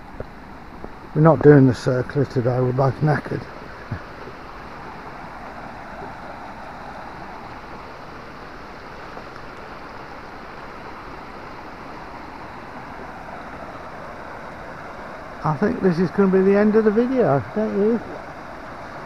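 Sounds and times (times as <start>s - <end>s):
stream rushing over riffles: 0.0s - 19.0s.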